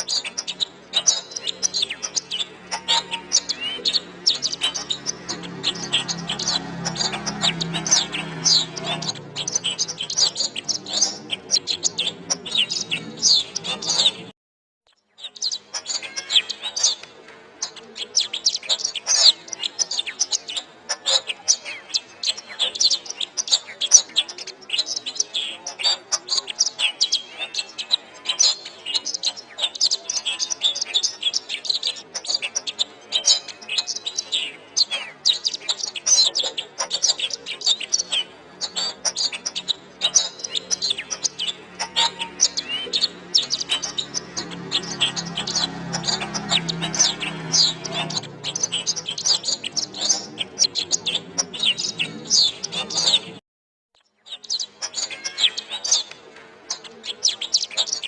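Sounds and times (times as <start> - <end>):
canary singing chirps and trills: 0.0 - 14.3, 14.9 - 53.4, 54.0 - 58.0.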